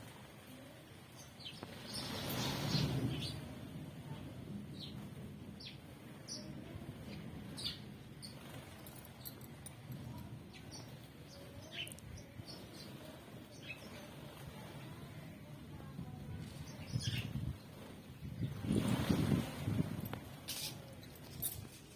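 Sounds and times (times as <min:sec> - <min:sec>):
small birds chirping: 0:00.5 - 0:21.7.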